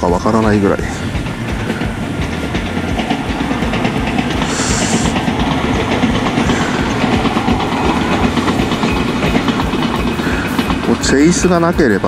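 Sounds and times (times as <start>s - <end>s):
fishing reel whirring and ticking: 0.2s - 12.0s.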